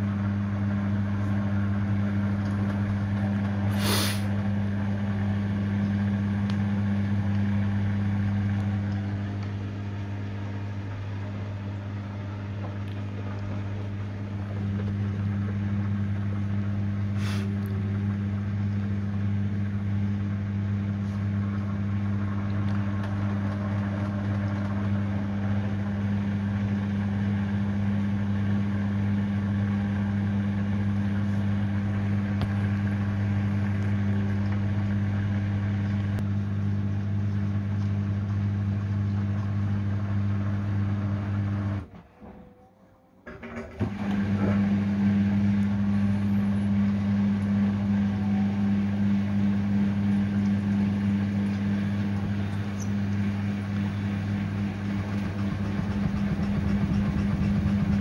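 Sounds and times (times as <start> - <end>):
washing machine spinning: 0.0 - 42.6, 43.2 - 58.0.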